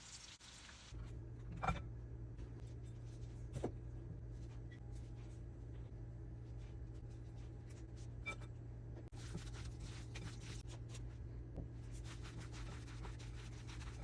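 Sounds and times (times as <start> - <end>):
steady low hum: 0.4 - 14.0.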